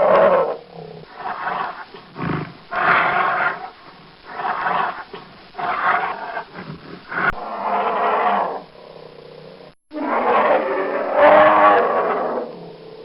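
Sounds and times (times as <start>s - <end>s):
bear roaring: 0.0s - 13.0s.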